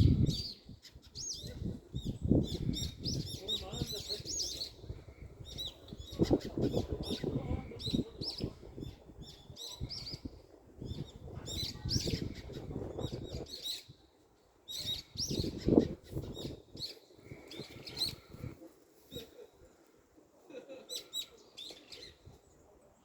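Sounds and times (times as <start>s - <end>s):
small birds chirping: 0.0s - 19.9s, 20.9s - 23.0s.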